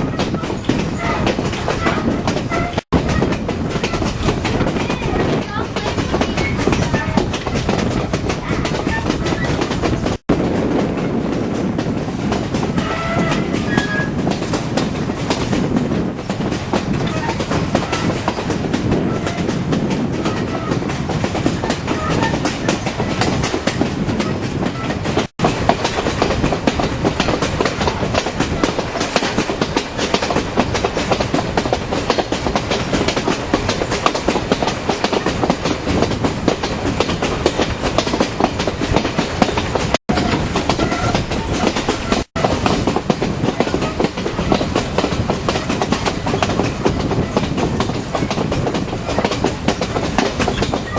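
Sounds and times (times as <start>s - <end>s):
train rumbling on track: 0.0s - 50.9s
wheels clicking over rail joints: 0.0s - 50.9s.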